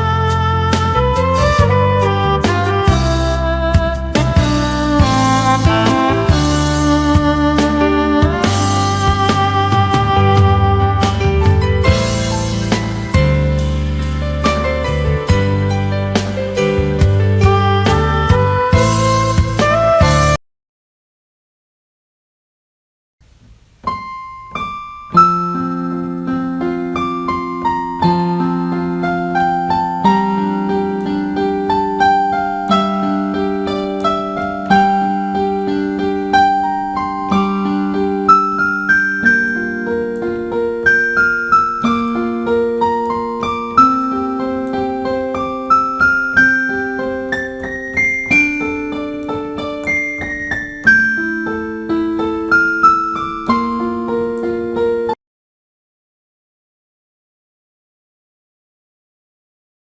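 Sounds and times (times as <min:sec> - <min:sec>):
solo piano music: 0:00.0 - 0:20.4, 0:23.2 - 0:55.2.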